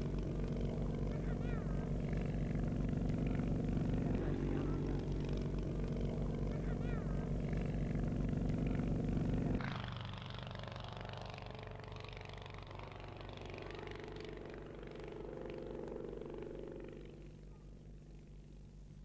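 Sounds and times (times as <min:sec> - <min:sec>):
aircraft piston engine running: 0:00.0 - 0:19.0.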